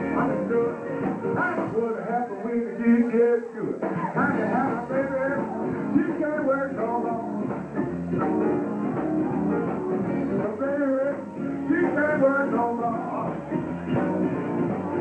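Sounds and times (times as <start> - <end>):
live blues band playing: 0.0 - 2.0, 3.8 - 15.0.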